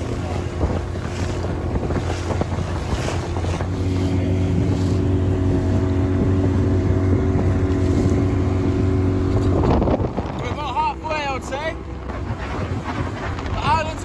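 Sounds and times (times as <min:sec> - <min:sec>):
outboard motor drone: 0:00.0 - 0:14.0
waves splashing against hull: 0:00.0 - 0:14.0
wind on microphone: 0:00.0 - 0:14.0.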